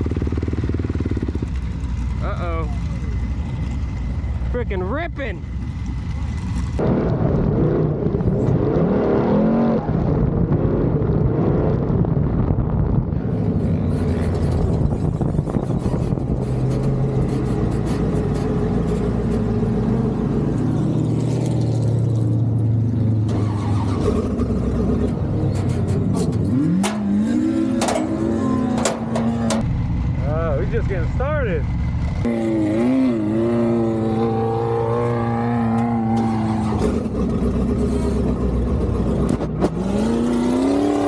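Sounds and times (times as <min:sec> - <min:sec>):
engine revving under load: 0:06.7 - 0:12.4, 0:13.2 - 0:41.0.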